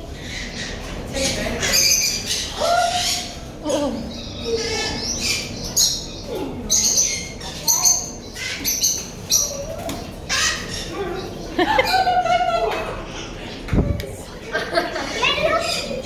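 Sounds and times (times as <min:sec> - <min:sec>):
parrots squawking and screeching: 0:00.0 - 0:13.7, 0:14.4 - 0:16.0.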